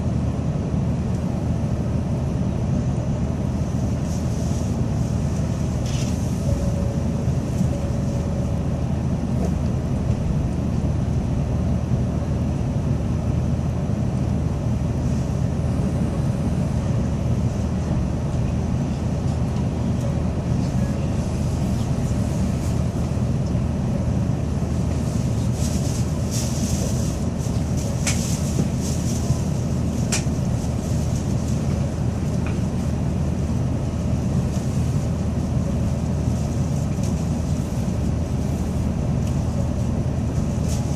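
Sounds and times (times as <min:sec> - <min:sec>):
train cabin low rumble: 0:00.0 - 0:40.9.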